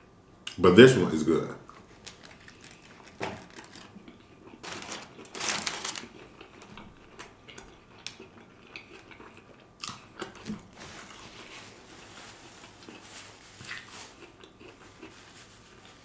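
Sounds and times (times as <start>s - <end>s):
man chewing sandwich: 1.7s - 5.3s, 6.0s - 16.0s.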